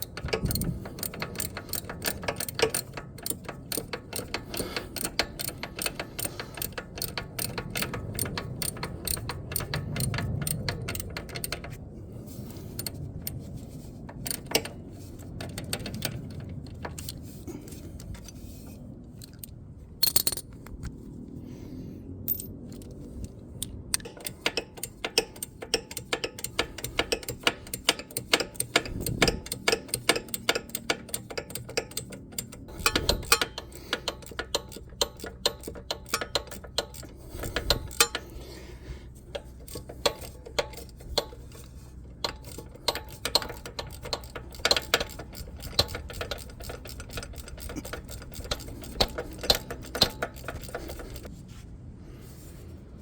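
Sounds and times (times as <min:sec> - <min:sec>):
ratchet wrench clicking: 0:00.0 - 0:18.3, 0:19.2 - 0:20.6, 0:22.3 - 0:51.3.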